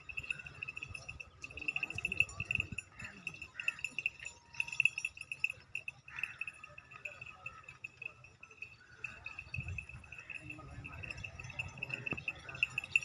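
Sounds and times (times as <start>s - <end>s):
faint crowd voices: 0.0s - 13.0s.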